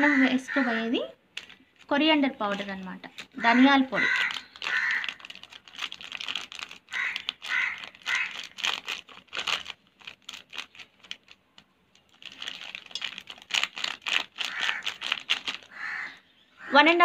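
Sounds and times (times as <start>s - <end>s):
foil packet crinkling and tapping: 1.3s - 15.8s.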